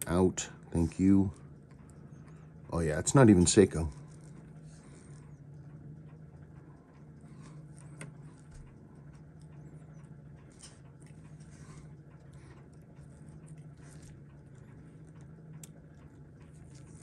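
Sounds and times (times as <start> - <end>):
steady low hum: 0.0 - 17.0
tweezers clicking on watch movement: 0.0 - 17.0.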